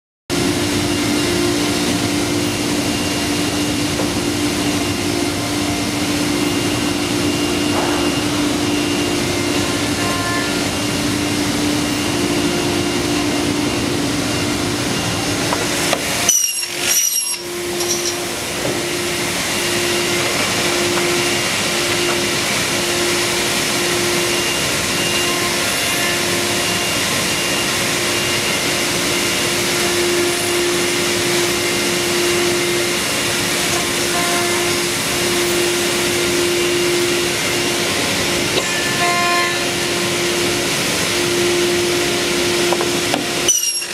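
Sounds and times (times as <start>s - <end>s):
cutting machine running: 0.3s - 43.9s
machine hum: 0.3s - 43.9s.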